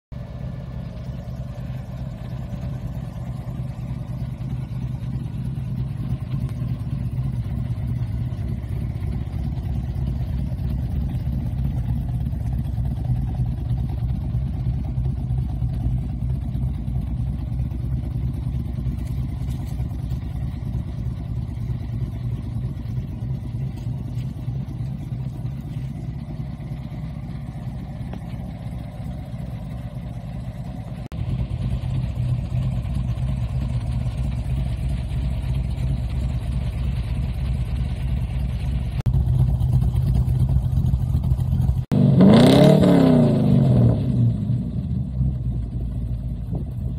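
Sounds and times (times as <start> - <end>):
hot rod engine idling: 0.1 - 46.9.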